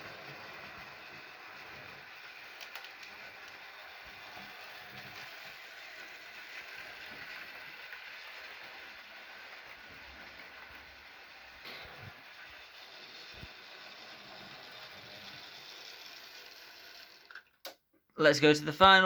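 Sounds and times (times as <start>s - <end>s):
model train whirring on rails: 0.0s - 17.7s.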